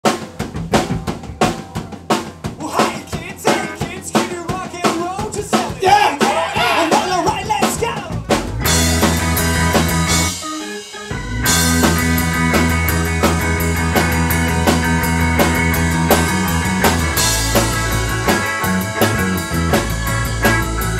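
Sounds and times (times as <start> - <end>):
drum kit beat: 0.0 - 20.9
rock band playing: 0.0 - 20.9.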